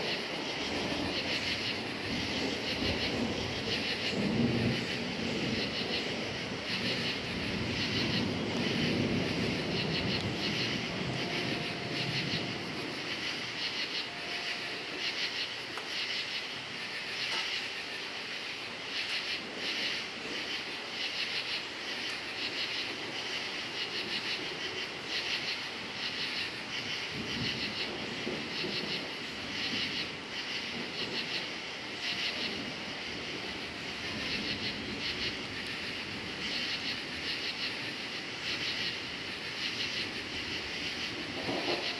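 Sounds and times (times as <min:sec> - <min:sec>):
low thunder rumbling: 0:00.0 - 0:16.4, 0:21.9 - 0:41.9
crickets chirping: 0:00.0 - 0:41.9.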